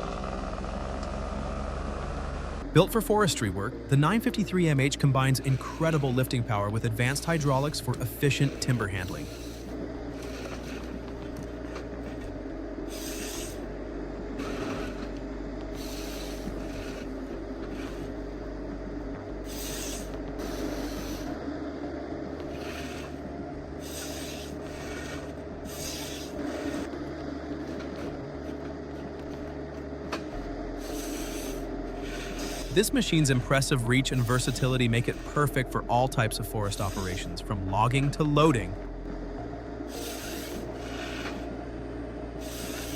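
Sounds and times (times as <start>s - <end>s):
heavy machine running: 0.0s - 42.9s.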